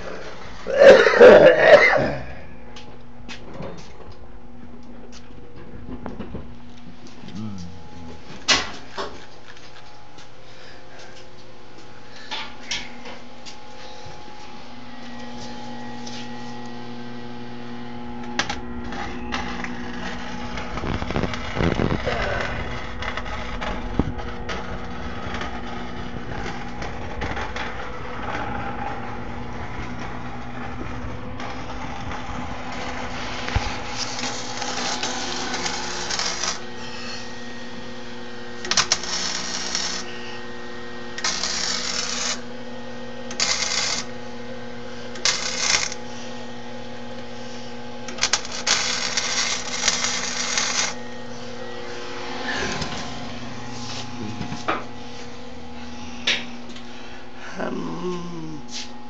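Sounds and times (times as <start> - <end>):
arc welder crackling: 0.0 - 57.0
electrical hum: 0.0 - 59.0.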